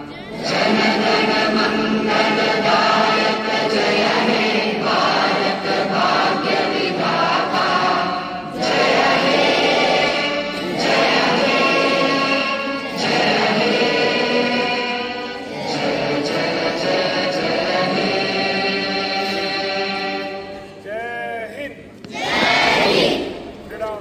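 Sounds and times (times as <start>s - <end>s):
choir singing: 0.0s - 20.9s, 22.1s - 23.5s.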